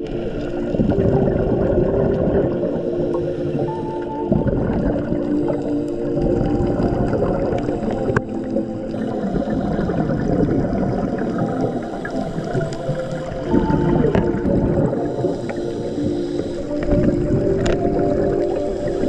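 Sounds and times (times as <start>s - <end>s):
background music sustained notes: 0.0s - 19.0s
exhaled bubbles underwater: 0.0s - 19.0s
underwater gurgling rush: 0.0s - 19.0s.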